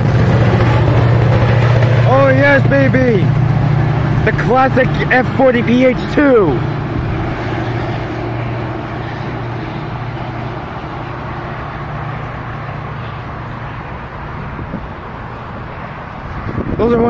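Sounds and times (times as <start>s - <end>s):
diesel locomotive droning: 0.0s - 17.0s.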